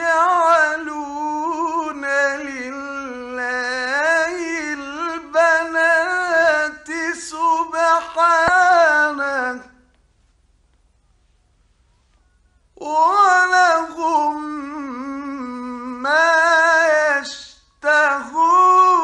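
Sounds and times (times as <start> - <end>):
man chanting melodically: 0.0 - 9.8, 12.8 - 19.0.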